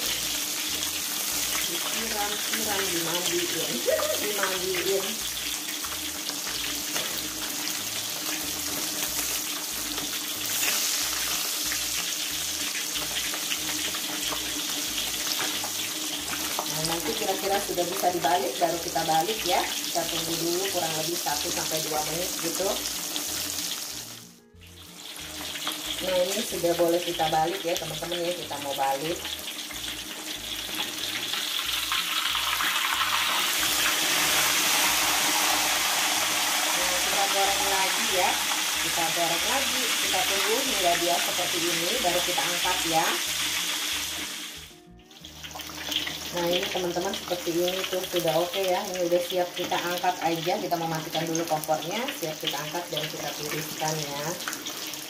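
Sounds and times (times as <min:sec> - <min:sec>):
hot oil sizzling around fish: 0:00.0 - 0:55.0.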